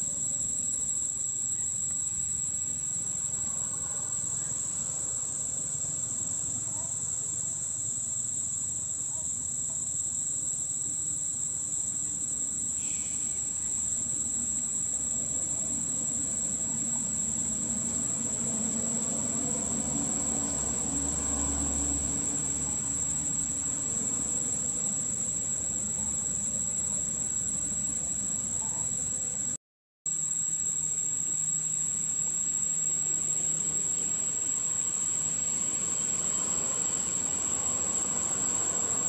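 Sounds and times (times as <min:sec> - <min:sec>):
high-pitched insect drone: 0:00.0 - 0:29.4, 0:30.1 - 0:39.0.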